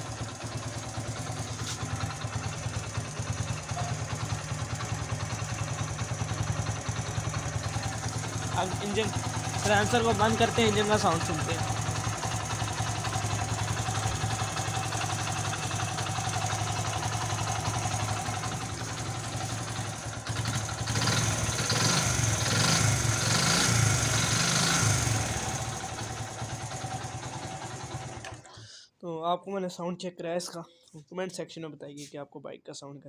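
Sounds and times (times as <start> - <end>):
motorcycle engine idling and revving: 0.0 - 28.4.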